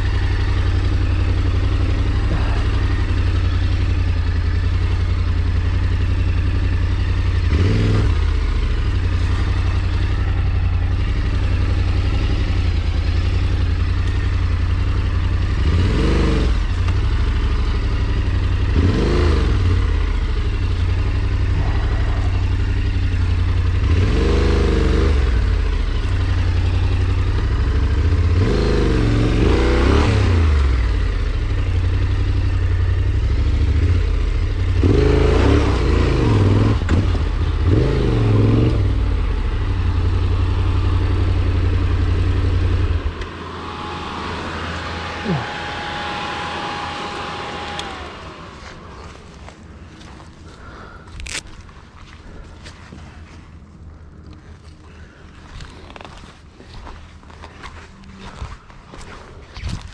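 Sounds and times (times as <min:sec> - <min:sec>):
small engine revving: 0:00.0 - 0:59.9.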